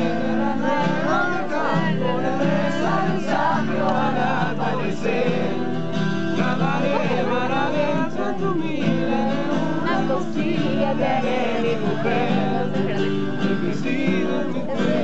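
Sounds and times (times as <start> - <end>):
people singing together: 0.0 - 15.0
strummed acoustic guitar: 0.0 - 15.0.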